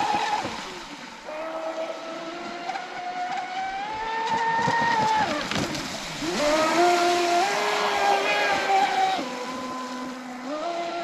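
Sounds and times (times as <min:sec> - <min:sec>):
model speedboat motor whine: 0:00.0 - 0:11.0.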